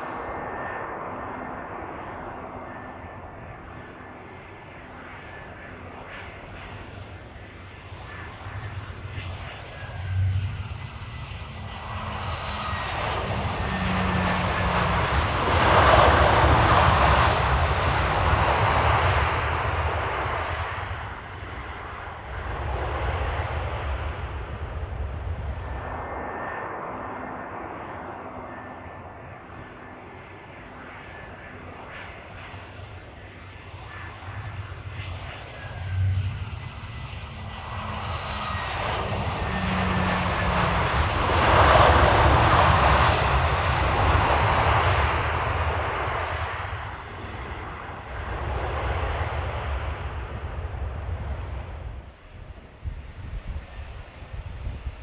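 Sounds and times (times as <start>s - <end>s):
jet airliner engines landing: 0.0s - 55.0s.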